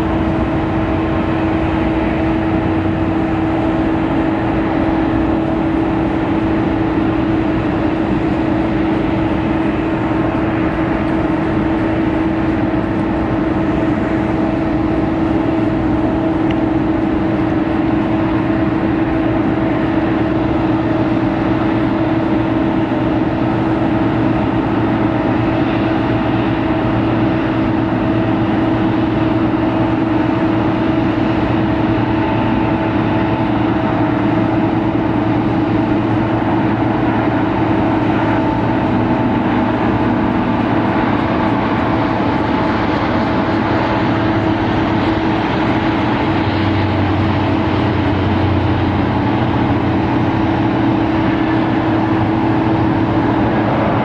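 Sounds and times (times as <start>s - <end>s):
airliner engine rumble: 0.0s - 54.0s
steady hum: 0.0s - 54.0s.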